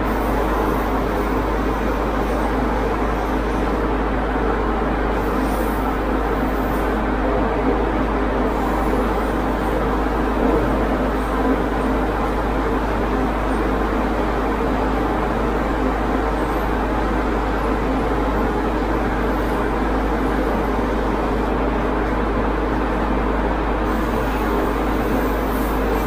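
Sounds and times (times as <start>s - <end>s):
air compressor humming: 0.0s - 26.0s.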